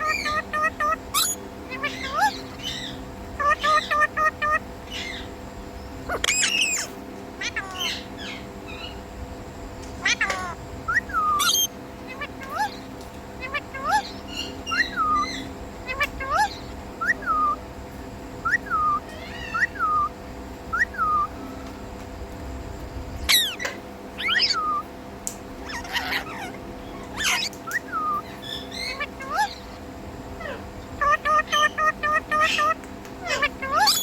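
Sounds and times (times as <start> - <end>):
parrot chirping and squawking: 0.0 - 5.3, 6.1 - 9.0, 10.0 - 17.6, 18.4 - 21.4, 23.3 - 24.9, 25.6 - 34.0
faint steady hum: 0.0 - 34.0.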